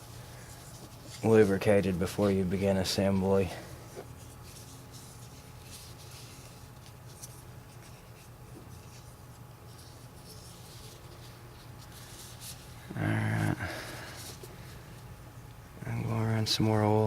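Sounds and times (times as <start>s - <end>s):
steady low hum: 0.0s - 17.0s
hands rubbing and scratching: 0.3s - 15.0s.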